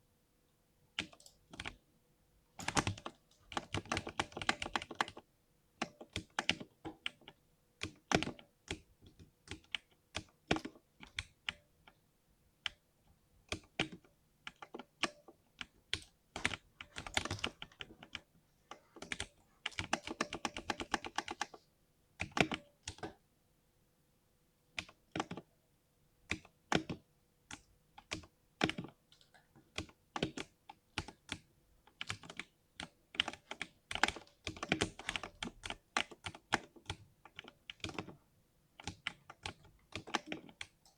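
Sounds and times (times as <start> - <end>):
mechanical keyboard typing: 1.0 - 1.8, 2.6 - 11.7, 13.5 - 21.6, 22.2 - 23.2, 24.8 - 25.5, 26.3 - 38.2, 38.8 - 40.9.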